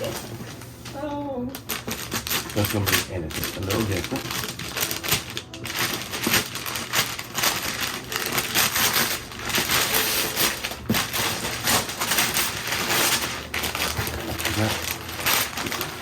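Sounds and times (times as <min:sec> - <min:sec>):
wrapping paper tearing and crumpling: 0:00.0 - 0:16.0.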